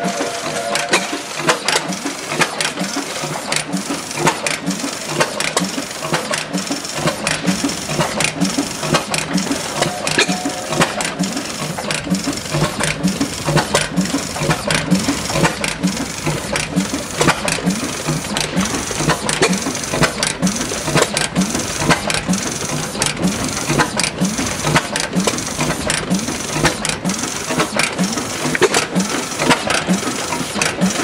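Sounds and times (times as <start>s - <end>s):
old engine running: 0.0s - 31.0s.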